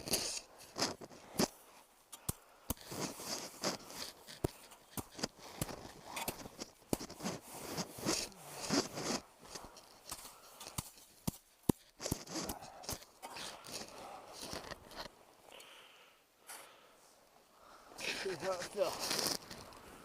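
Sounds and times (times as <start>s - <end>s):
snow crunching and scraping: 0.0s - 2.0s, 2.7s - 15.5s, 16.5s - 20.0s.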